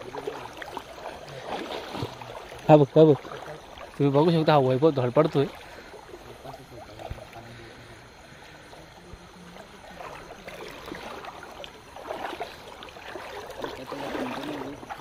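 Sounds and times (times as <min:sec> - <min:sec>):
water running over stones: 0:00.0 - 0:07.6, 0:08.9 - 0:15.0
feet splashing through stream: 0:00.0 - 0:15.0.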